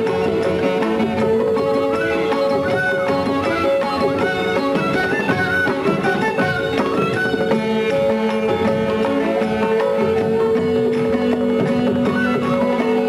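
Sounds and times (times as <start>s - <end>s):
hand drum strokes: 0.0s - 13.0s
plucked string melody: 0.0s - 13.0s.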